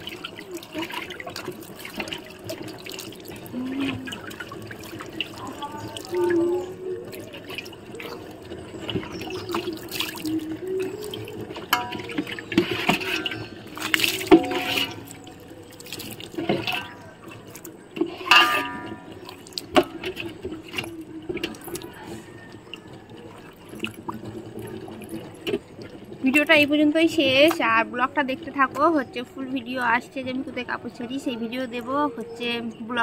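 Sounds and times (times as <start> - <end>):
water splashing on concrete floor: 0.0 - 27.7
low wavering hum: 0.0 - 33.0.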